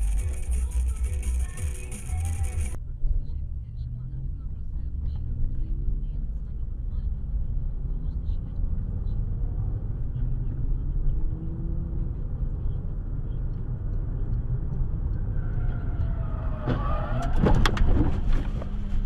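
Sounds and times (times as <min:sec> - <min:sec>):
car rumbling on road: 0:00.0 - 0:19.0.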